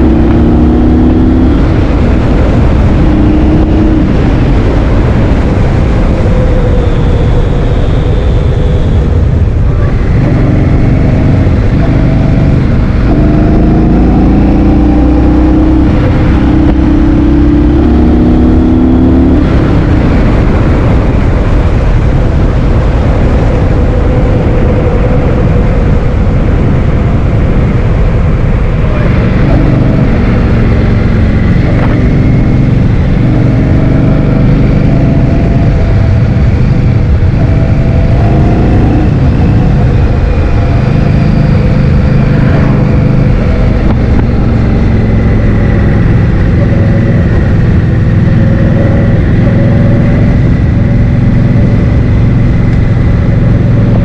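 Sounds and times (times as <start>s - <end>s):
vehicle engine accelerating: 0.0s - 54.0s
wind buffeting microphone: 0.0s - 54.0s.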